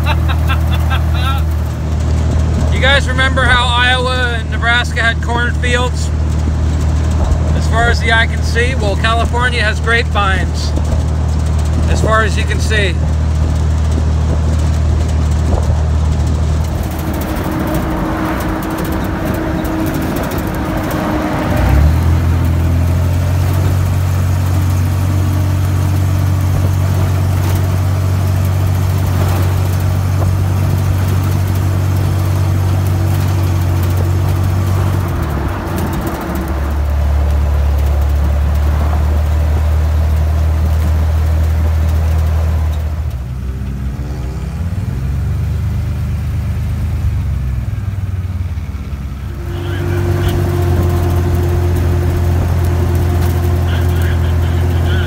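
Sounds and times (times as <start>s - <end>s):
car engine running: 0.0s - 55.0s
road noise: 0.0s - 55.0s.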